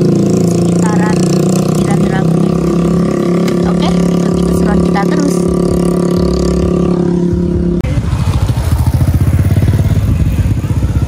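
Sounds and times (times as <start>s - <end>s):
steady engine hum: 0.0s - 11.0s.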